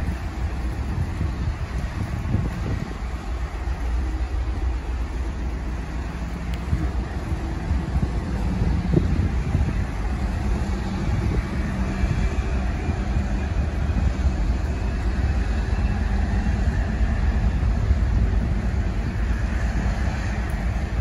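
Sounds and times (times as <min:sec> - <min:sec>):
diesel locomotive low rumble: 0:00.0 - 0:21.0.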